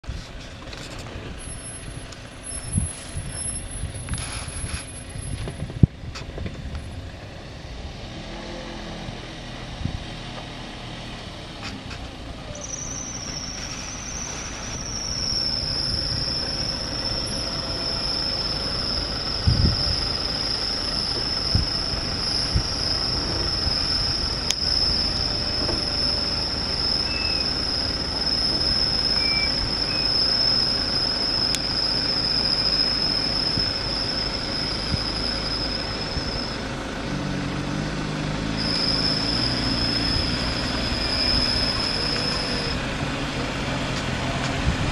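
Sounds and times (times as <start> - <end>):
brakes squealing: 0.0 - 44.9
low engine rumble: 0.0 - 44.9.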